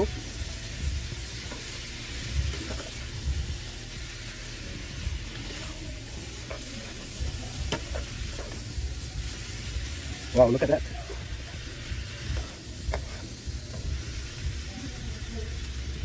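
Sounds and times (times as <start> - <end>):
offal sizzling in oil: 0.0 - 16.0.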